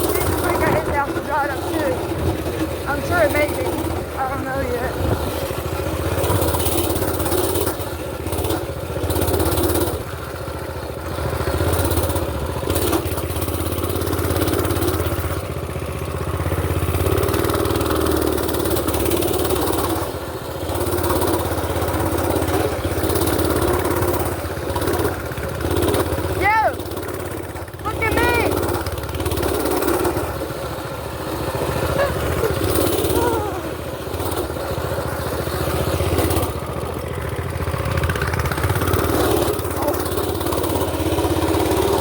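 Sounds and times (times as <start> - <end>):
mini bike engine running: 0.0 - 42.0.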